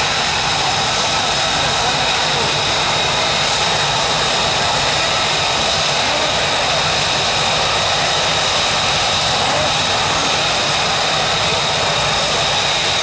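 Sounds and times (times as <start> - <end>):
jet engine roar and whine: 0.0 - 13.0.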